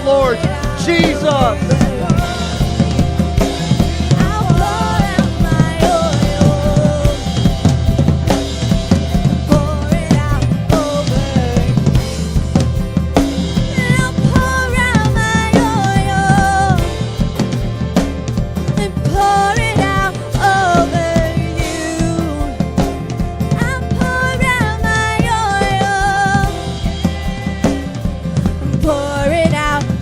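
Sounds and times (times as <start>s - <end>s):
drum kit beat with rimshots: 0.0s - 30.0s
worship band playing: 0.0s - 30.0s.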